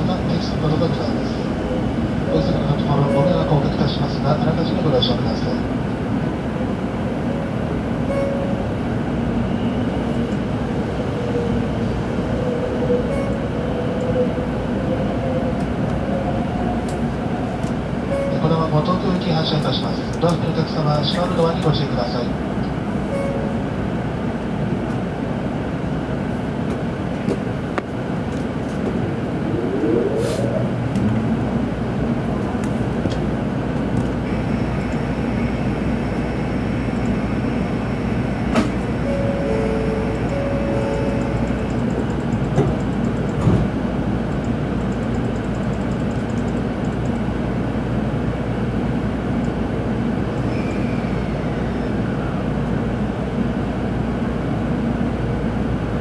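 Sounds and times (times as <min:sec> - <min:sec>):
rising whine of train: 0:00.0 - 0:56.0
train rumble: 0:00.0 - 0:56.0.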